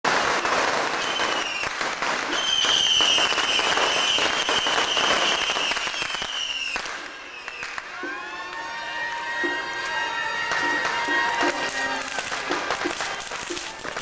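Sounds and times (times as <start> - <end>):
firecrackers crackling: 0.0 - 14.0.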